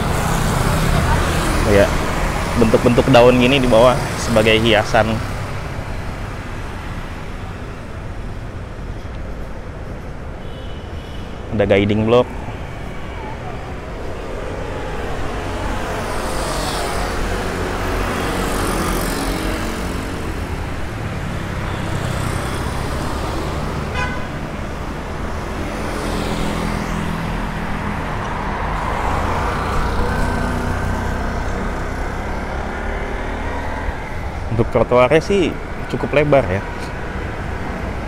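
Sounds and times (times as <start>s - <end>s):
low rumble of road noise: 0.0s - 38.0s
motorcycles and cars passing: 0.0s - 38.0s.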